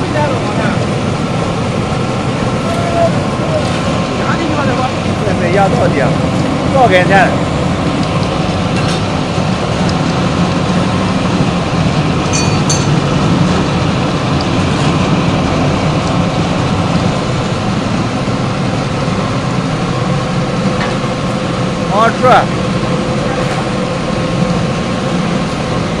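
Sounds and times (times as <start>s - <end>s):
pellet mill droning: 0.0s - 26.0s.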